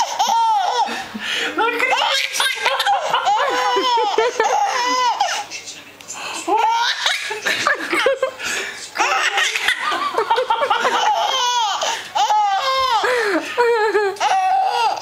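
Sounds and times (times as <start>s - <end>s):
baby giggling: 0.0s - 1.1s, 1.8s - 5.5s, 6.5s - 8.3s, 9.0s - 15.0s.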